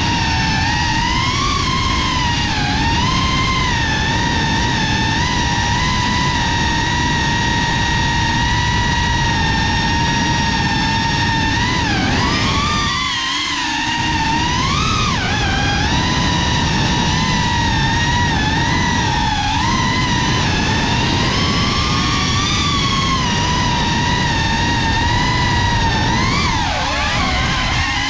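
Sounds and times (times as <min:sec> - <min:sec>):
drone motors whining: 0:00.0 - 0:28.0
low rushing noise: 0:00.0 - 0:28.0.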